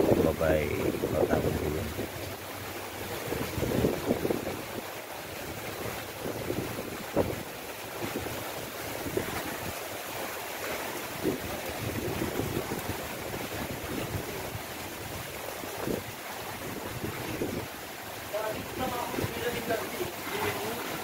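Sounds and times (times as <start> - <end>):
gusty wind buffeting microphone: 0.0 - 9.8, 11.0 - 20.2
heavy rain: 0.0 - 21.0
water slapping against quay: 0.0 - 21.0.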